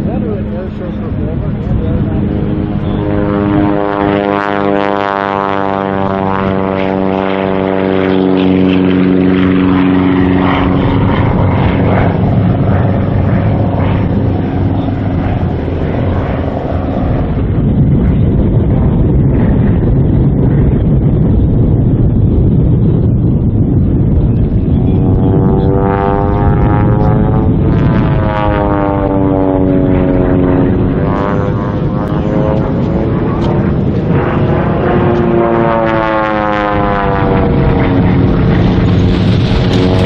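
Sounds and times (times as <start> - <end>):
airplane engine and propeller: 0.0 - 40.0.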